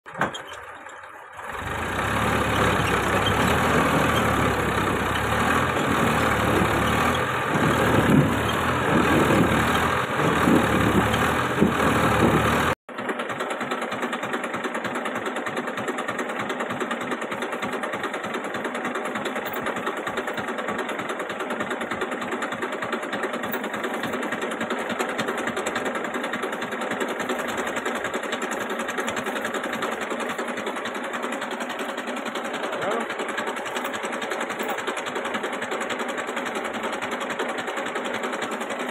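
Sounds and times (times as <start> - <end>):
diesel engine idling clatter: 0.1 - 38.9
tractor diesel engine running: 0.1 - 38.9.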